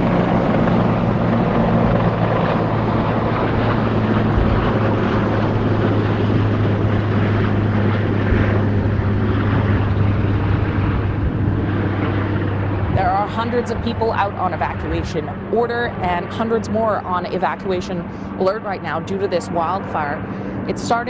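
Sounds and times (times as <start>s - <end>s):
helicopter flying close by: 0.0s - 21.0s.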